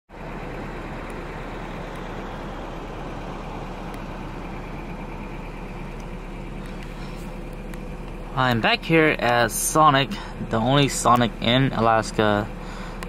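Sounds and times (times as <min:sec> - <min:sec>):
pickup truck engine idling: 0:00.1 - 0:13.0.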